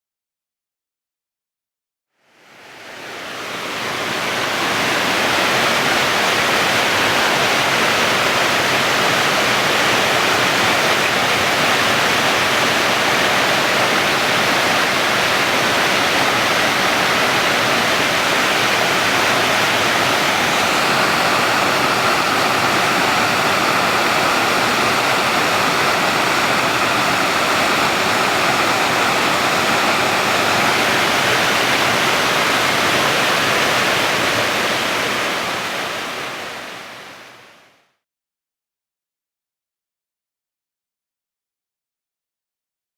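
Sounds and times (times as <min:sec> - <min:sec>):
waterfall rushing: 0:02.3 - 0:37.6.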